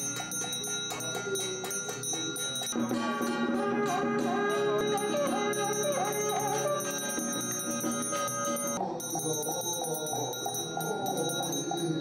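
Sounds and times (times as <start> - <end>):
metallic bell strikes: 0.0 - 12.0
wavering melody: 0.0 - 12.0.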